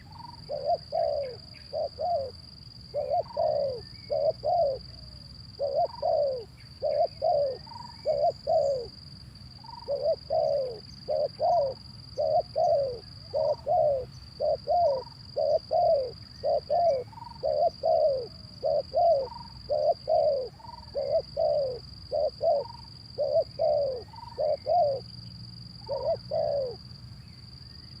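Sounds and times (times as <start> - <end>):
dove cooing: 0.0 - 9.0, 9.6 - 25.2, 25.8 - 26.8.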